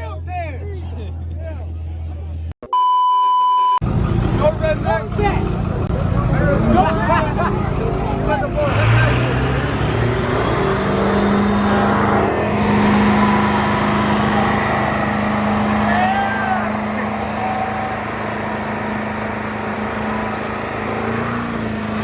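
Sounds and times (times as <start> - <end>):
car engine at high revs: 3.8 - 22.0
loud noisy background: 3.8 - 22.0.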